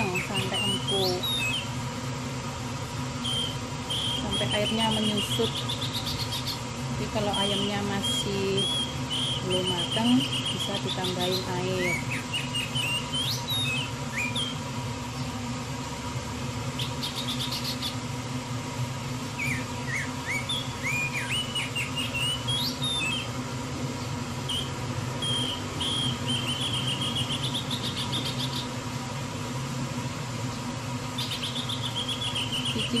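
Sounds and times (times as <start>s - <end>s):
small bird chirping: 0.0s - 1.8s, 3.2s - 15.4s, 16.7s - 18.1s, 19.3s - 23.4s, 24.0s - 28.8s, 30.5s - 33.0s
steady low hum: 0.0s - 33.0s.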